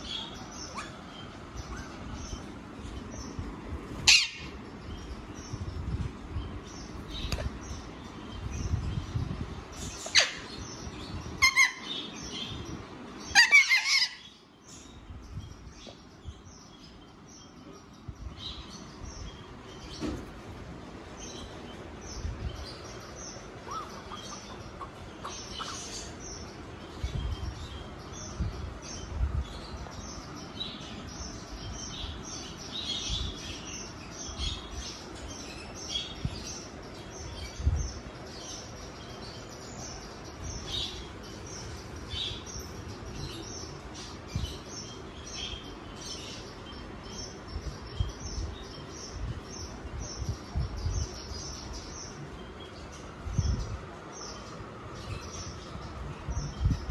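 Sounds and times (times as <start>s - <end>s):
parakeets chirping: 0.0s - 56.9s.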